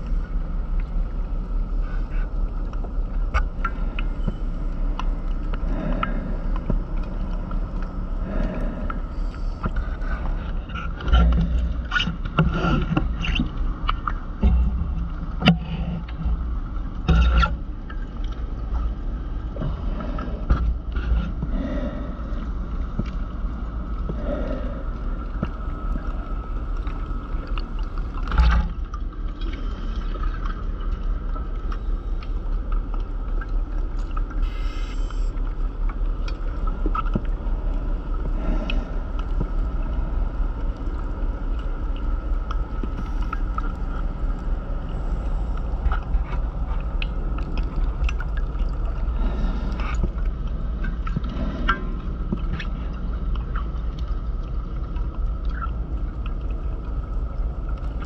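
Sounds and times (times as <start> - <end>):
faint steady hum: 0.0 - 58.0
underwater rumble: 0.0 - 58.0.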